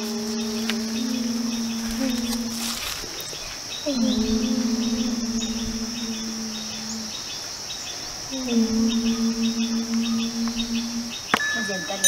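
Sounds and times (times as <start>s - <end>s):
insects chirping: 0.0s - 12.0s
women chanting om: 0.0s - 12.0s.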